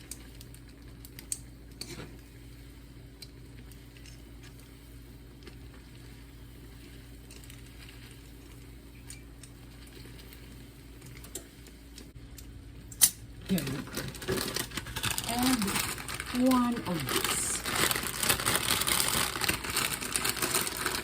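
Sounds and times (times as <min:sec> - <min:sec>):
pot simmering with faint sizzle: 0:00.0 - 0:21.0.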